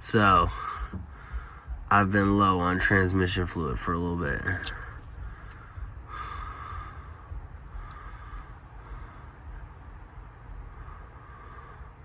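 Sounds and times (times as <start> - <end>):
insects chirring: 0.0 - 12.0
low background rumble: 0.0 - 12.0.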